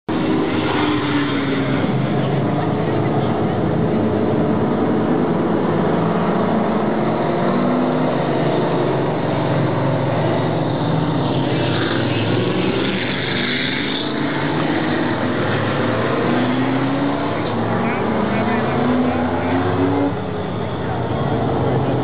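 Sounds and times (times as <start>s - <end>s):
race car engines roaring: 0.1s - 22.0s.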